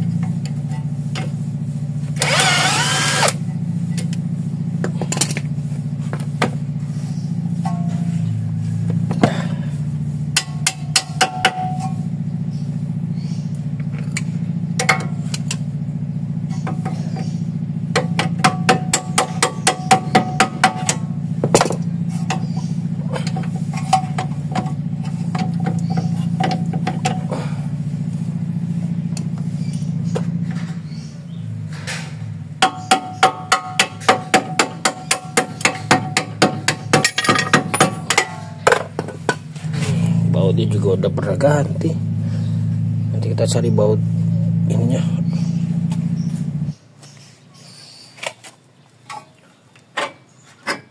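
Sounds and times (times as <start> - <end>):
steady low hum: 0.0 - 48.1.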